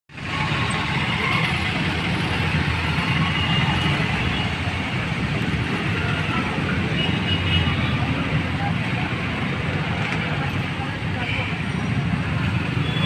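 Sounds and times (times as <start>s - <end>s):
street noise rumble and hiss: 0.1s - 13.0s.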